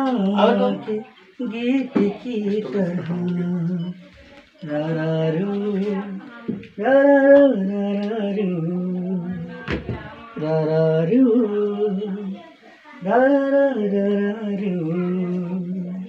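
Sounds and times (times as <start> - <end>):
man singing a lullaby: 0.0 - 16.0.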